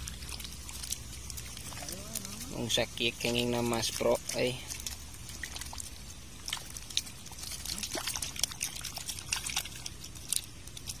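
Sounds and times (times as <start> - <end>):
small splashes and drips: 0.0 - 11.0
water trickling and splashing: 0.0 - 11.0.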